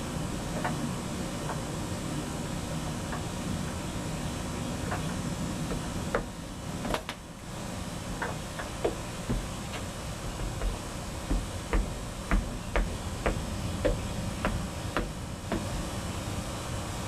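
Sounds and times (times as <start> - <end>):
ceiling fan low rumble: 0.0 - 17.0.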